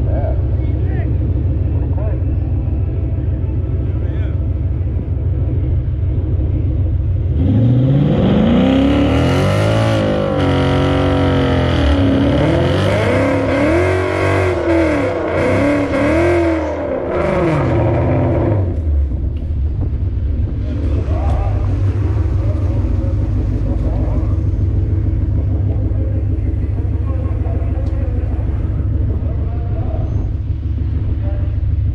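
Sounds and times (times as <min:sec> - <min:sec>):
car engine accelerating hard: 0:00.0 - 0:31.9.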